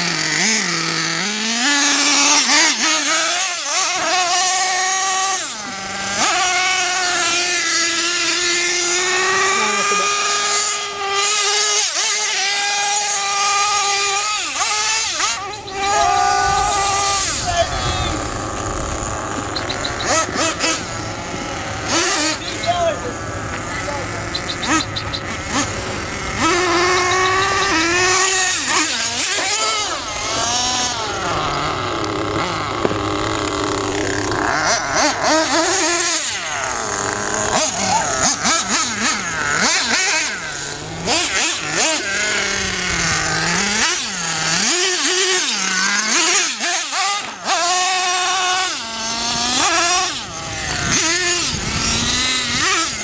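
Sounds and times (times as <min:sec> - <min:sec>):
rc truck engine revving: 0:00.0 - 0:53.0.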